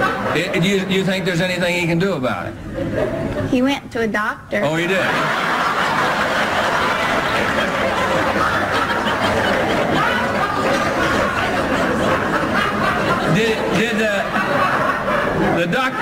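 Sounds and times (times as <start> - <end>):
studio audience laughing: 0.0 - 1.6, 2.6 - 3.5, 4.7 - 16.0.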